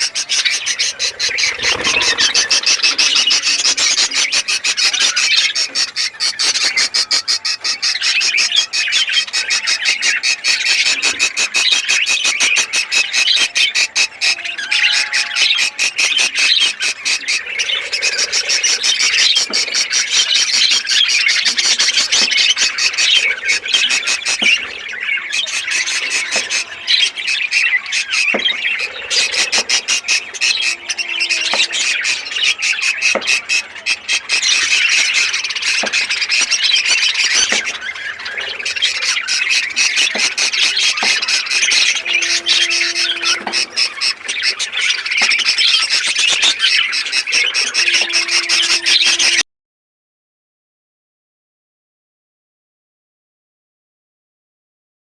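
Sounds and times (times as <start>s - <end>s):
budgerigars chattering and squawking: 0.0s - 49.4s.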